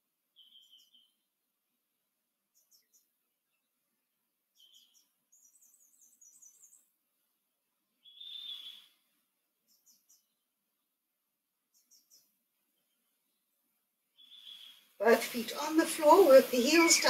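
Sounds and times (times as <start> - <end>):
small birds chirping: 0.3 - 1.3, 2.4 - 7.0, 7.9 - 11.0, 11.6 - 17.0.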